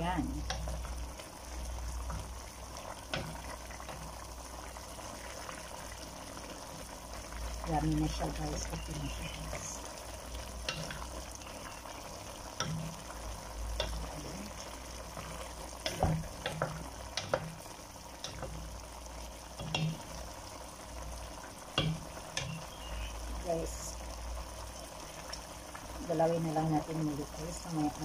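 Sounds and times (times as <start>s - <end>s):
stew sizzling in a metal pot: 0.0s - 28.0s.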